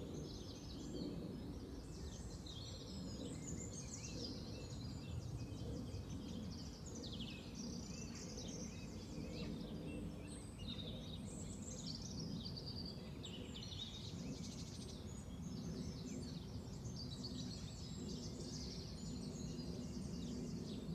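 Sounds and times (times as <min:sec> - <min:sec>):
songbirds singing: 0:00.0 - 0:20.9.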